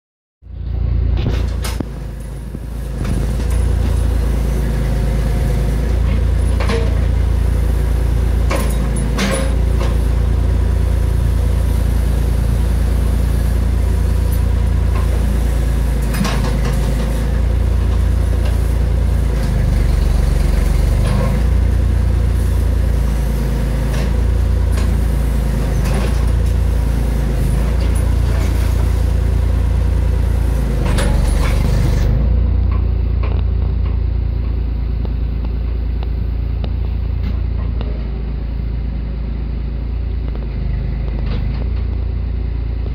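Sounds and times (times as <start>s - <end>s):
backhoe engine running: 0.4s - 42.9s.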